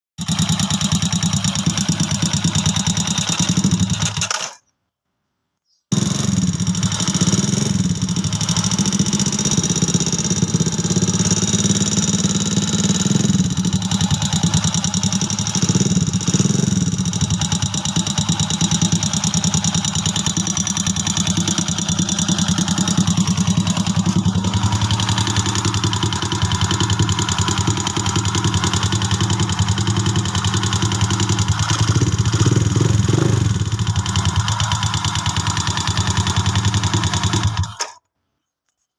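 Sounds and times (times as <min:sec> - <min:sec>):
motorcycle engine knocking and ticking: 0:00.2 - 0:04.6, 0:05.9 - 0:38.0.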